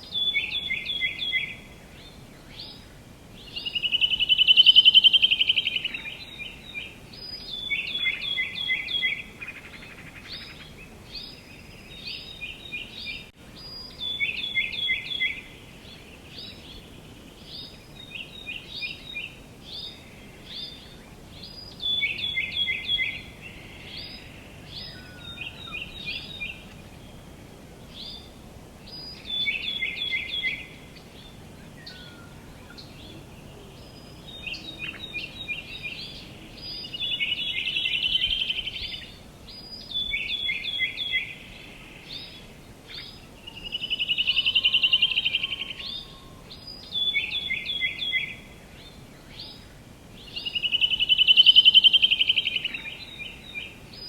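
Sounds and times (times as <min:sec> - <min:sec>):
faint outdoor hiss: 0:00.0 - 0:54.0
songbirds chirping and trilling: 0:00.0 - 0:54.0.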